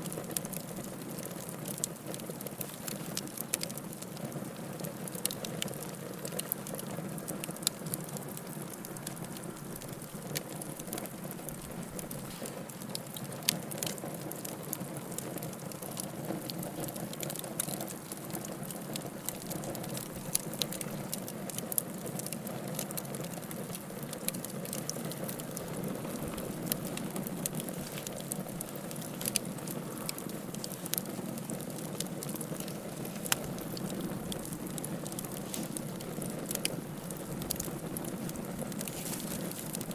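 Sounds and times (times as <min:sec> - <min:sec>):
bonfire flame rushing: 0:00.0 - 0:39.9
crackles and pops of burning wood: 0:00.0 - 0:39.9.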